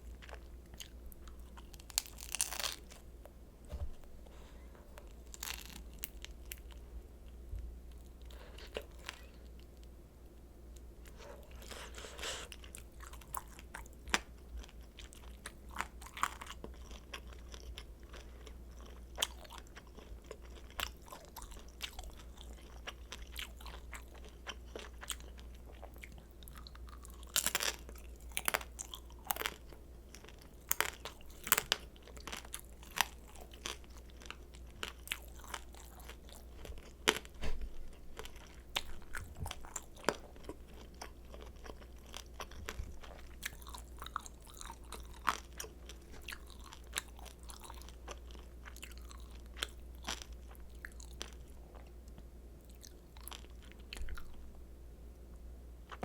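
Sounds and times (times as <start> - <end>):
crunchy chewing: 0.0 - 3.0, 4.3 - 9.9, 11.0 - 54.4
faint low hum: 0.0 - 56.0.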